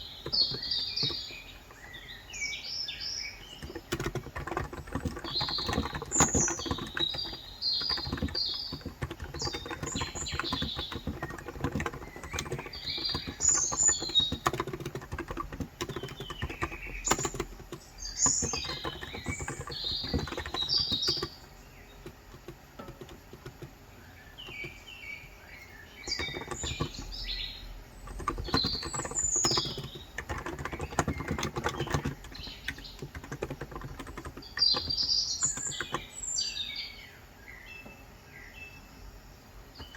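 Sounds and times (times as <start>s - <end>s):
keyboard typing: 0.0s - 2.3s, 3.2s - 25.2s, 26.0s - 36.2s
birds chirping: 0.0s - 39.9s.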